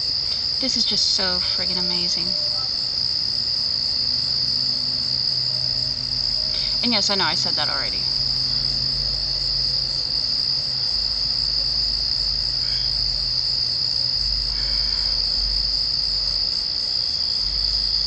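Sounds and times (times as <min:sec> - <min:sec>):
crickets trilling: 0:00.0 - 0:18.0
faint low hum: 0:00.0 - 0:18.0.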